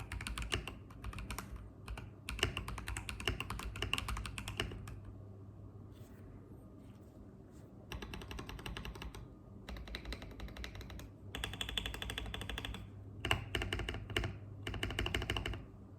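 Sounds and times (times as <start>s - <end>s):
mechanical keyboard typing: 0.0s - 5.0s, 7.9s - 15.7s.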